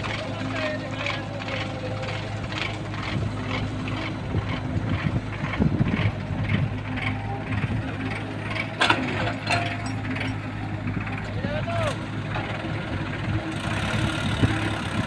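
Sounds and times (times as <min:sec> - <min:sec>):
diesel engines running: 0:00.0 - 0:15.0
excavator loading soil clatter: 0:00.0 - 0:15.0.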